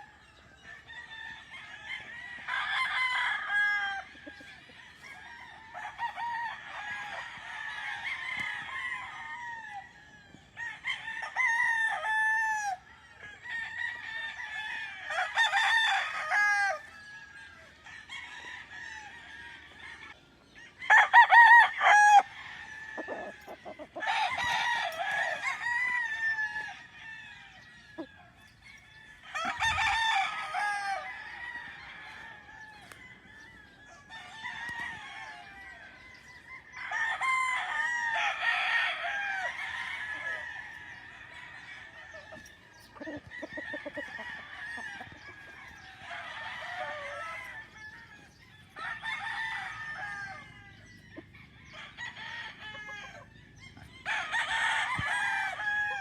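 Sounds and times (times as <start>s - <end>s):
chickens clucking: 0.0s - 56.0s
roosters crowing: 0.0s - 56.0s.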